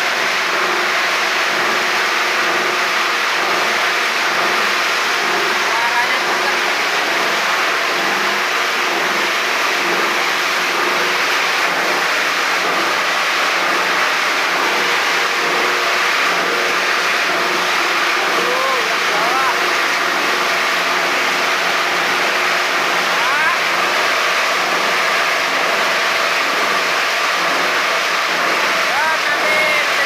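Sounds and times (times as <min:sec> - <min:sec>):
plastic grinding machine: 0:00.0 - 0:30.0.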